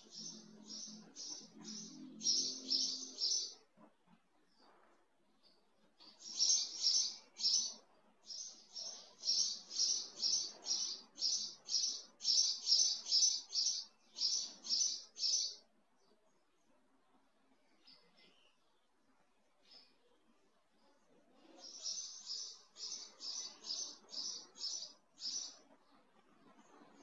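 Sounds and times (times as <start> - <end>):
small bird chirping: 0.0 - 16.5, 19.5 - 27.0
faint background music: 0.0 - 27.0.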